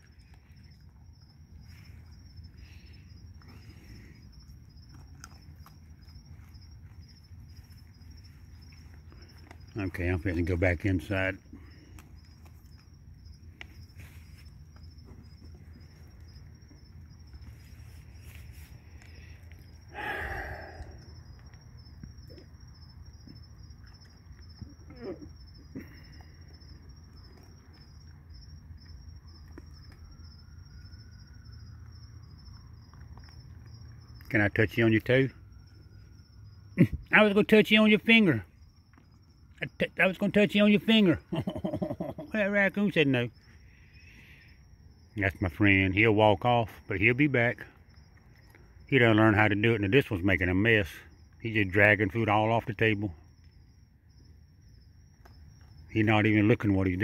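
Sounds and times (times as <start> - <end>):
raccoons crunching dry food: 0.0 - 36.2, 37.2 - 57.0
crickets chirping: 0.0 - 57.0
night insects trilling: 0.0 - 57.0.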